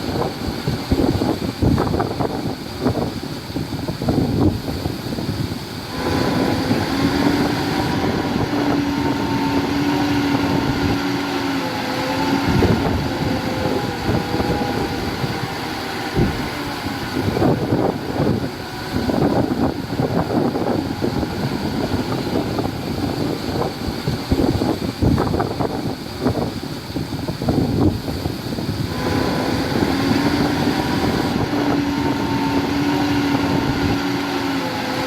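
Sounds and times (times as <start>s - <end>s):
heavy diesel machinery running: 0.0s - 35.0s
steady whine: 0.0s - 35.0s.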